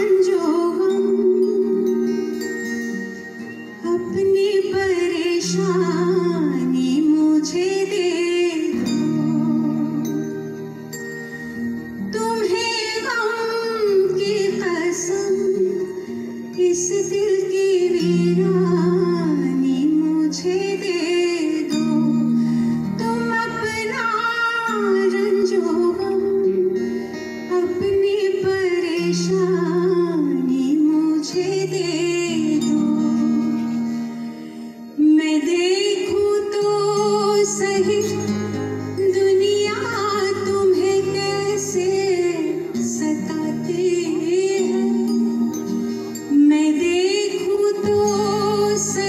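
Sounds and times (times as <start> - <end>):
guitar chords: 0.0 - 49.0
woman singing into a microphone: 0.0 - 49.0.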